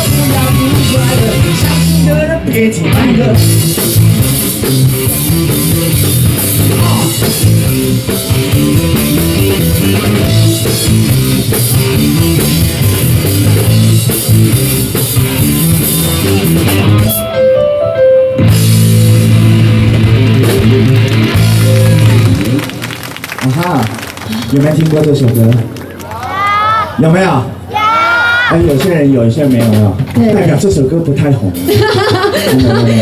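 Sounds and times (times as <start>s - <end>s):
live rock band playing: 0.0s - 24.8s, 28.7s - 33.0s.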